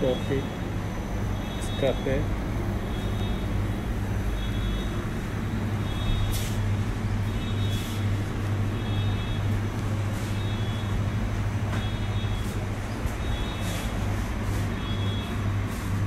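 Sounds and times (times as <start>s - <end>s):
refrigerator coolers humming: 0.0s - 16.0s.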